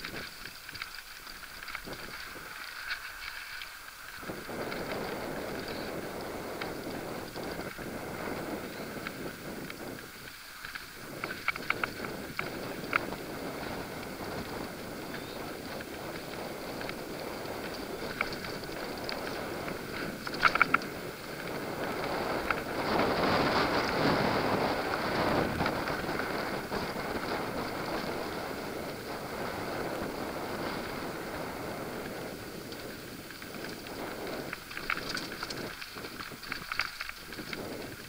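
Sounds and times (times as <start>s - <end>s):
bike tyres on dirt: 0.0s - 38.0s
wind rushing over microphone: 4.0s - 38.0s.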